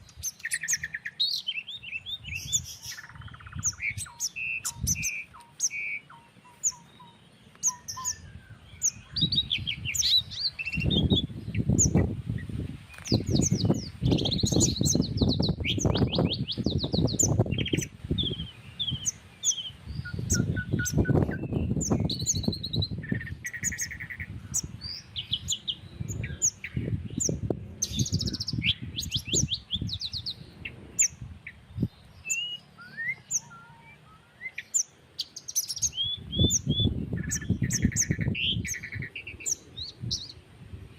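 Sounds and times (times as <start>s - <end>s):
wind rumble on microphone: 0.0s - 5.8s, 7.6s - 33.6s, 35.5s - 40.9s
birds chipping and trilling: 0.0s - 40.9s.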